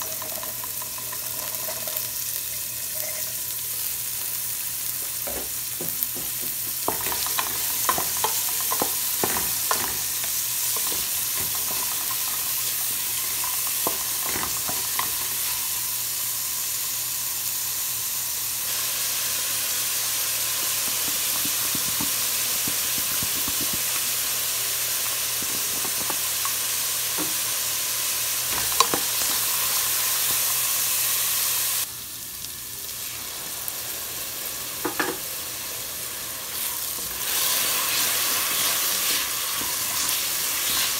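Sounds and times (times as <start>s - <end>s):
vegetables sizzling in a pot: 0.0s - 40.9s.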